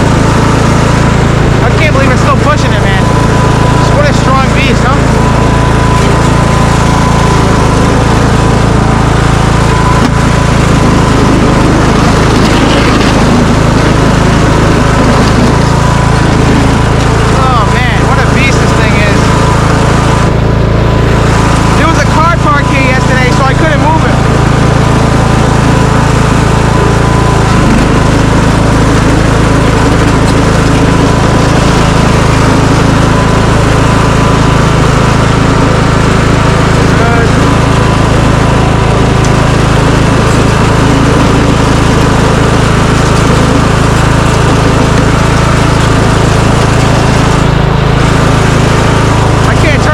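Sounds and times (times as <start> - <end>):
small engine under load: 0.0 - 49.9.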